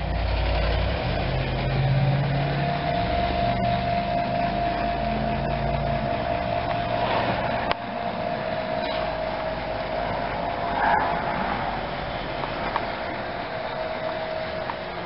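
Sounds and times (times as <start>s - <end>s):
mechanical hum with whining tone: 0.0s - 15.0s.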